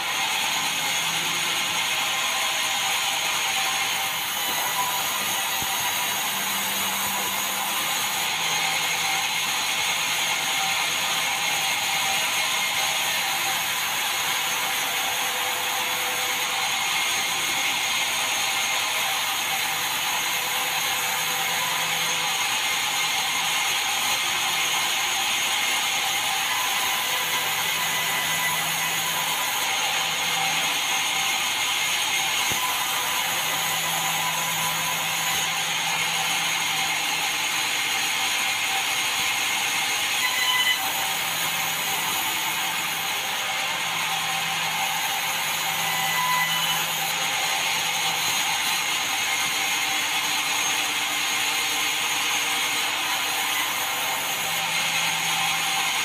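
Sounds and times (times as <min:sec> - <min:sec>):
band saw running: 0:00.0 - 0:56.0.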